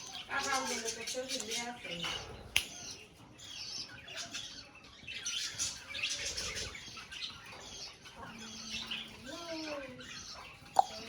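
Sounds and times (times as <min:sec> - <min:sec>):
budgerigars chattering: 0:00.0 - 0:11.0.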